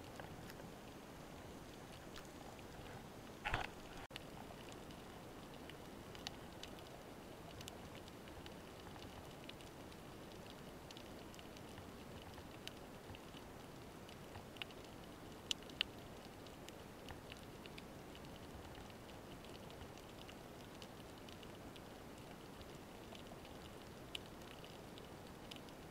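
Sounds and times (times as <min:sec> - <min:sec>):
sharp clicks and crackles: 0:01.4 - 0:25.9.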